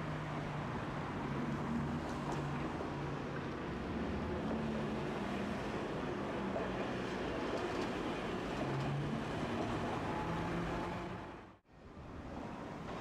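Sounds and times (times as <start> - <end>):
streetcar rolling past: 0.0 - 11.5, 12.2 - 13.0.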